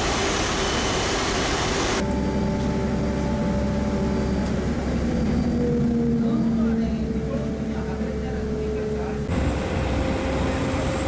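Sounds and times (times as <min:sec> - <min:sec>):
mechanical engine drone: 0:00.1 - 0:11.0.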